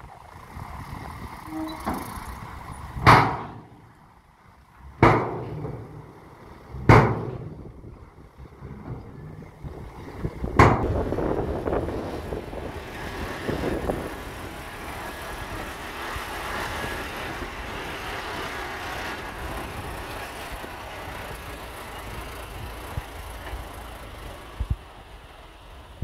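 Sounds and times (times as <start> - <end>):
dump truck driving past: 0.0 - 26.0.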